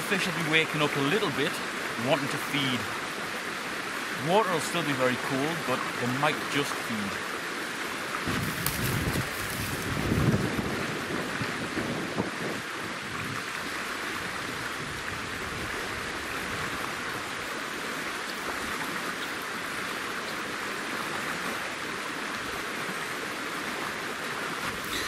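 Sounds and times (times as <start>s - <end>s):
river flowing over stones: 0.0s - 25.0s.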